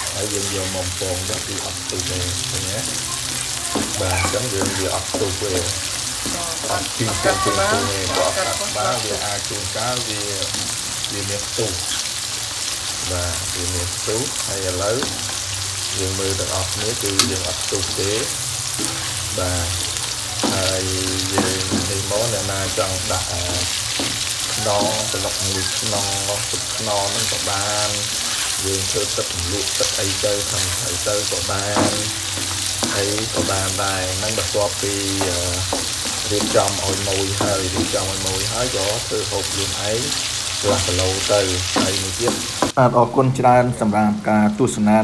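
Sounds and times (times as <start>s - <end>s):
larvae sizzling in oil: 0.0s - 42.8s.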